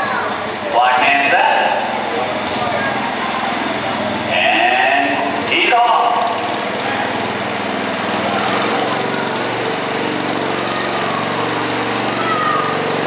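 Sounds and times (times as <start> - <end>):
tractor engine under load: 0.6 - 13.0.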